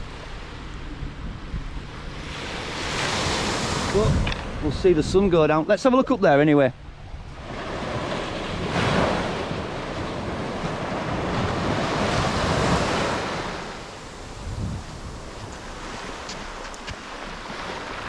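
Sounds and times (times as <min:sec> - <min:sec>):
wind buffeting microphone: 0:00.0 - 0:05.8, 0:06.7 - 0:18.0
sea waves breaking: 0:00.0 - 0:18.0.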